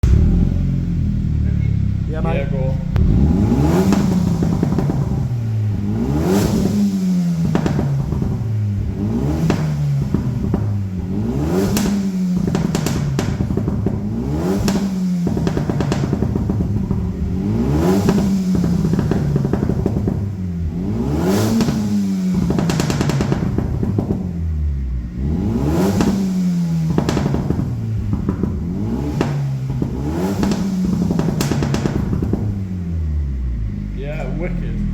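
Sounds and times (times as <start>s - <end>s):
car engine revving: 0.0s - 34.9s
exhaust pops and crackles: 0.0s - 34.9s.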